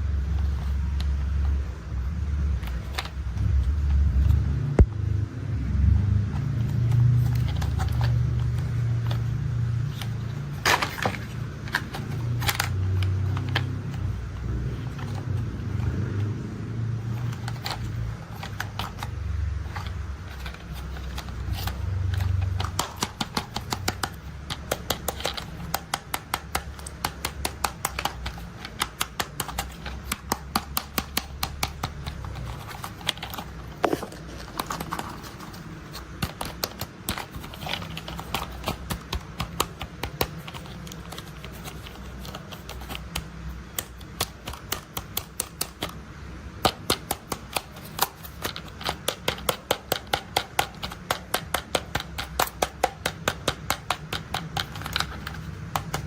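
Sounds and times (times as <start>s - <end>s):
plastic toy parts clicking: 6.6s - 16.3s, 17.0s - 56.0s.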